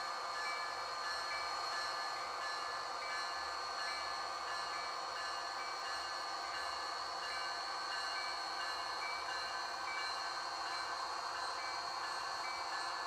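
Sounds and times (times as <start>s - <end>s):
model train wheels whirring on track: 0.0s - 13.0s.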